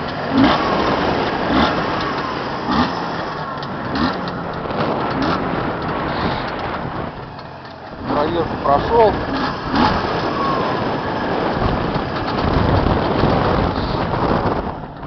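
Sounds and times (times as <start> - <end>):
two-stroke motorcycle engine running: 0.0 - 15.0.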